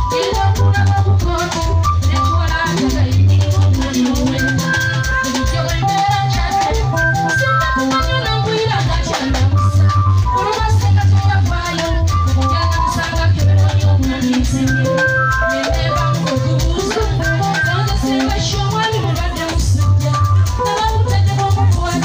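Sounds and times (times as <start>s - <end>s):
drum and bass beat: 0.0s - 22.0s
electric guitar: 0.0s - 22.0s
keyboard: 0.0s - 22.0s.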